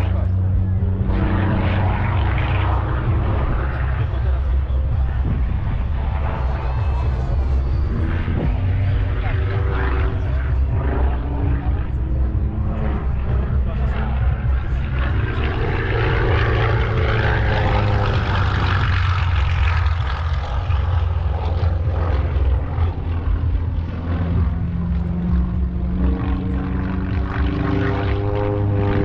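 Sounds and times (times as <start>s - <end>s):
propeller airplane engine: 0.0s - 29.0s.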